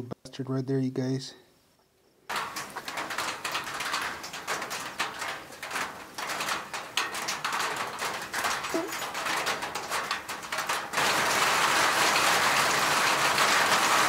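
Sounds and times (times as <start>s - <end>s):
heavy rain: 2.3s - 14.0s.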